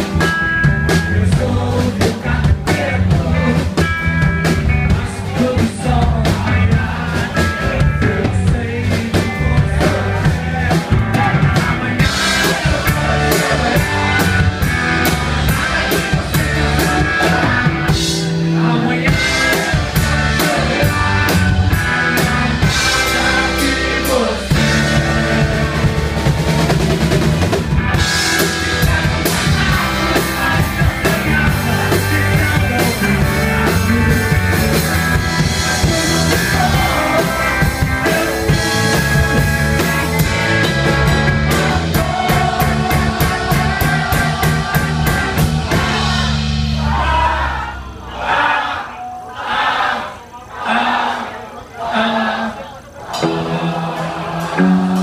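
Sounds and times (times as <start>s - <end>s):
rock band playing live: 0.0s - 49.3s, 53.1s - 55.0s.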